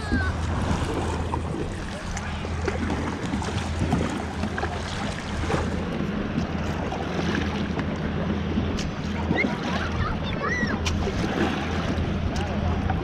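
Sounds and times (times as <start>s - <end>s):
steady low hum: 0.0s - 13.0s
water splashing against kayak hull: 0.0s - 13.0s.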